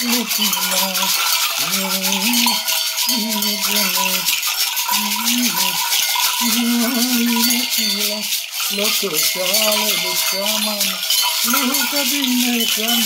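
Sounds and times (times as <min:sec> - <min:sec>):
gourd rattles shaken: 0:00.0 - 0:13.0
man chanting: 0:00.0 - 0:13.0
small metal bells shaken: 0:00.0 - 0:13.0.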